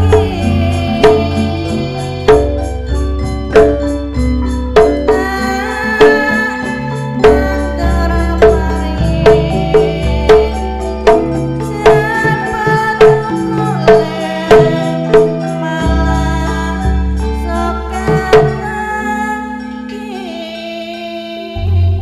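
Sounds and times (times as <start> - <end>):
woman singing: 0.0 - 3.8, 5.0 - 22.0
ringing metallophone tones: 0.0 - 21.8.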